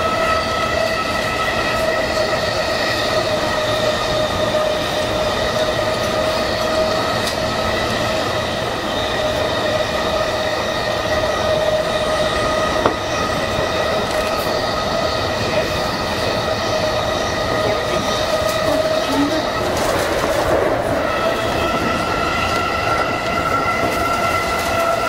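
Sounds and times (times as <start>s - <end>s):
electric train whine: 0.0s - 25.0s
rumble of wheels on rail: 0.0s - 25.0s.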